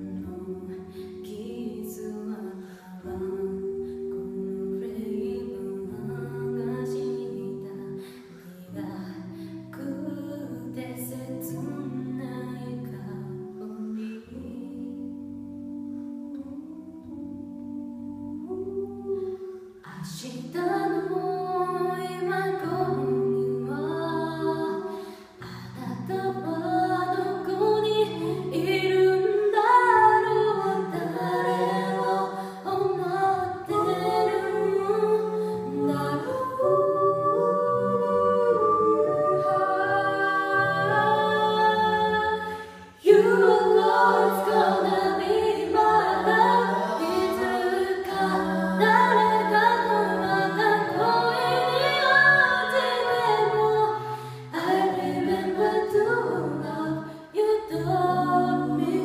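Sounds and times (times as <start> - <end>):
a cappella group singing in harmony: 0.0 - 59.0.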